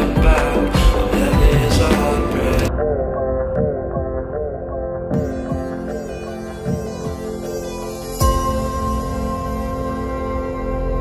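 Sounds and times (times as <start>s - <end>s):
soft electronic music: 0.0s - 11.0s.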